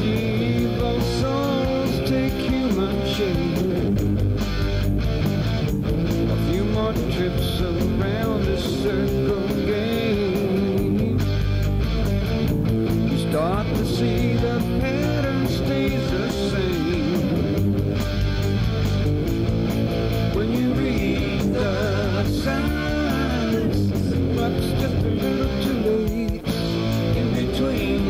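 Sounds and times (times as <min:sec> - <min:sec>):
electric guitar lead with bends: 0:00.0 - 0:28.0
rock backing band: 0:00.0 - 0:28.0.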